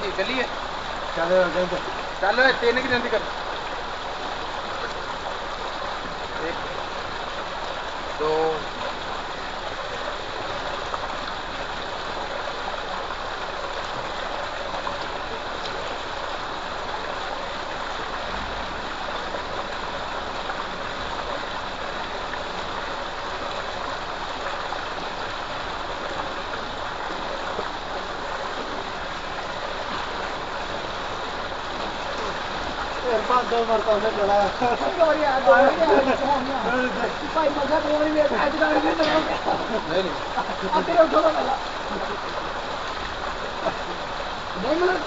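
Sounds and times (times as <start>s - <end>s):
water gushing into a tank: 0.0s - 45.0s.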